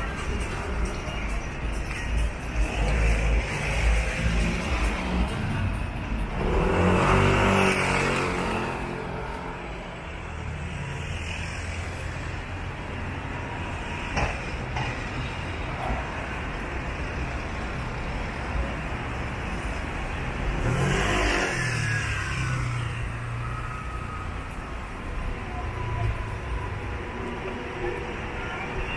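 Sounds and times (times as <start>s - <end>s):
cars driving past: 0.0s - 24.2s
steady traffic hum: 0.0s - 28.9s.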